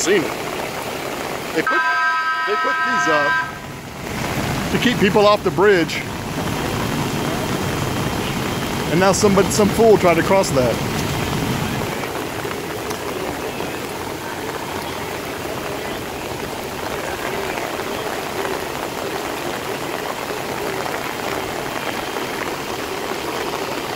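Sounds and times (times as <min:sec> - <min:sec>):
floodwater rushing: 0:00.0 - 0:23.9.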